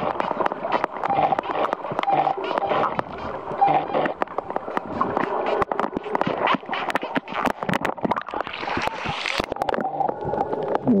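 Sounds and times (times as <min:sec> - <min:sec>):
underwater clicks and pops: 0:00.0 - 0:10.8
murky underwater rushing: 0:00.0 - 0:11.0.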